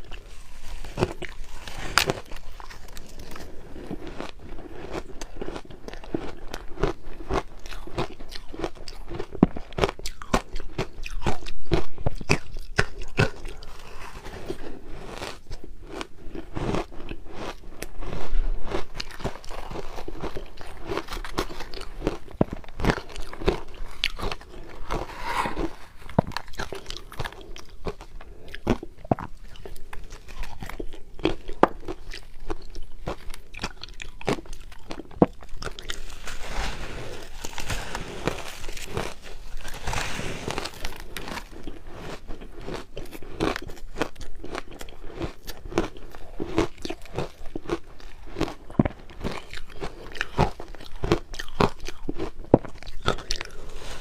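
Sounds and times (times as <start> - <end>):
crushed ice being chewed: 0.0 - 54.0.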